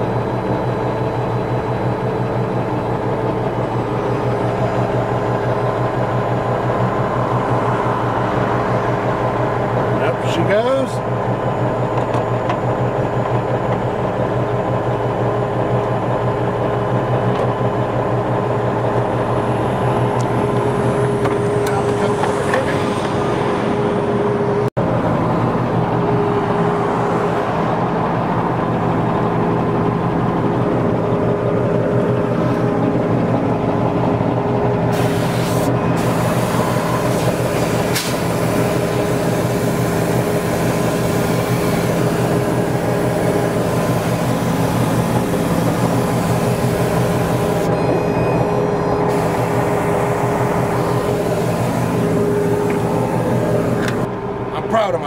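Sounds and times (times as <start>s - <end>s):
truck diesel engine idling: 0.0s - 55.0s.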